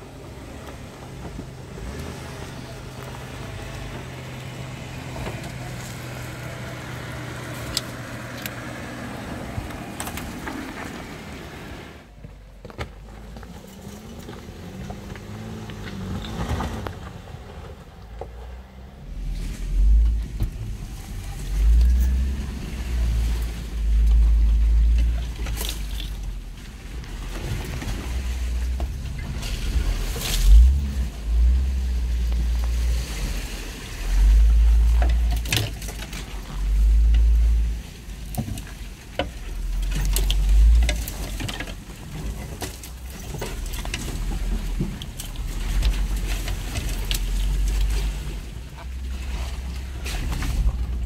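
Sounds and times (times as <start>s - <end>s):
vehicle rumbling and bumping: 0.0s - 51.0s.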